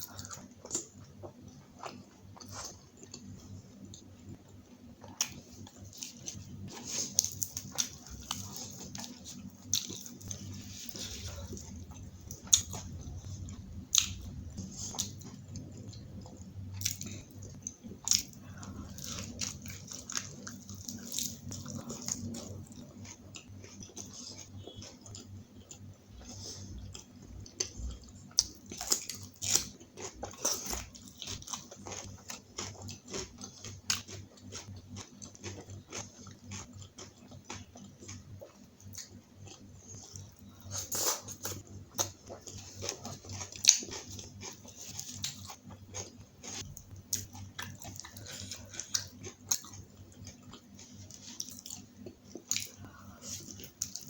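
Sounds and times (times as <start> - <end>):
food crunching: 0.0 - 54.0
low steady hum: 0.0 - 54.0
person chewing food: 0.0 - 54.0.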